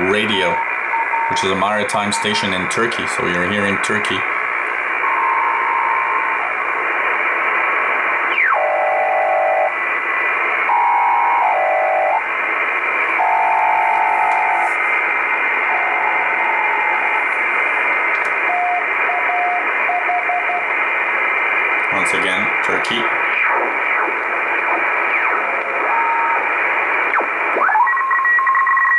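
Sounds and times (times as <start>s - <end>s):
radio static hiss: 0.0s - 28.9s.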